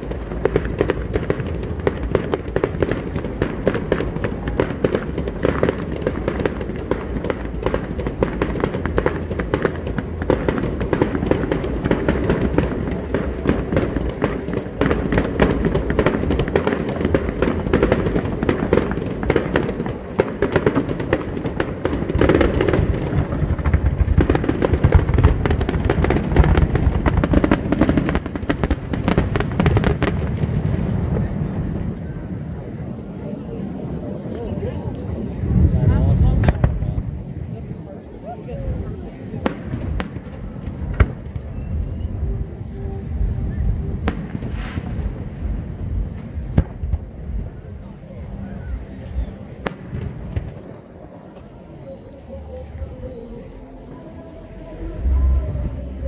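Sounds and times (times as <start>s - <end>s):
deep fireworks thuds: 0.0s - 32.5s, 34.9s - 37.6s, 38.7s - 53.4s
fireworks pops and crackles: 0.0s - 33.1s, 34.0s - 56.0s.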